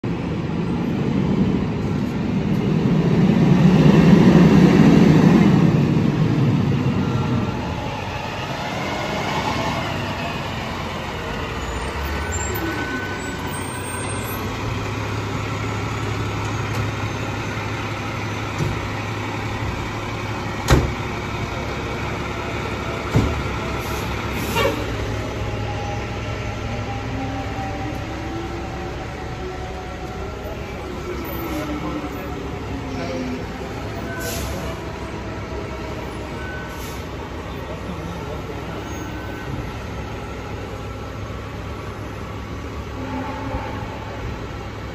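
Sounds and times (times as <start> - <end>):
truck diesel engine rumbling: 0.0 - 44.9.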